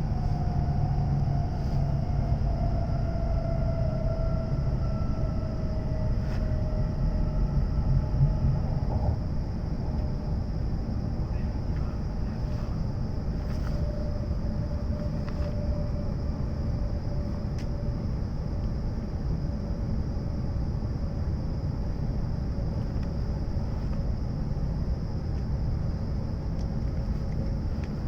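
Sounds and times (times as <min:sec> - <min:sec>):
faint steady tone: 0:00.0 - 0:28.0
train deep rumble: 0:00.0 - 0:28.0.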